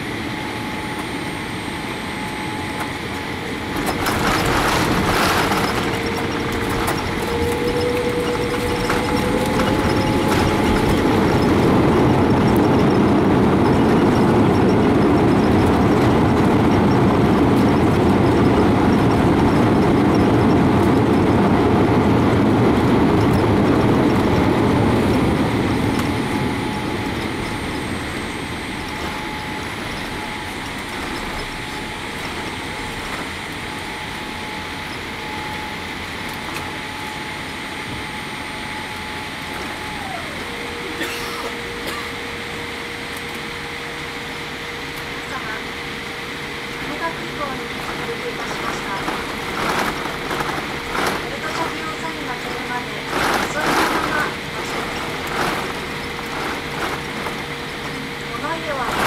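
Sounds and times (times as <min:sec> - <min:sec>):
jet engines roaring in reverse thrust: 0:00.0 - 0:59.0
thin engine whine: 0:00.0 - 0:59.0
runway rumble: 0:02.4 - 0:36.2, 0:38.4 - 0:59.0.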